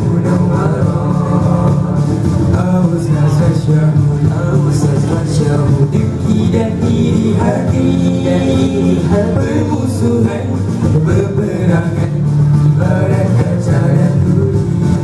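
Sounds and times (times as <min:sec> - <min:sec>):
boys singing through pa: 0:00.0 - 0:15.0.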